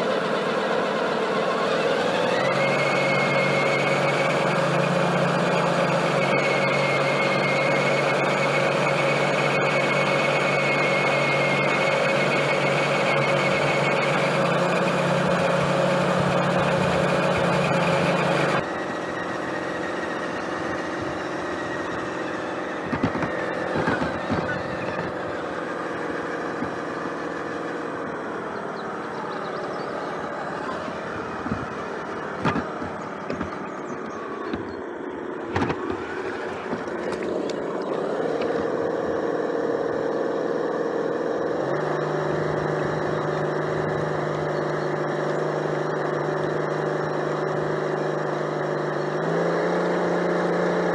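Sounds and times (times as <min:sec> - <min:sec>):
model truck motor humming: 0:00.0 - 0:50.9.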